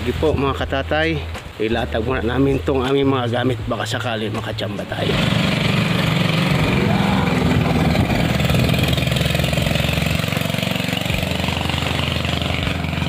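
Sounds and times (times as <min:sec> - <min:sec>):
boat engine passing: 0:00.0 - 0:13.0.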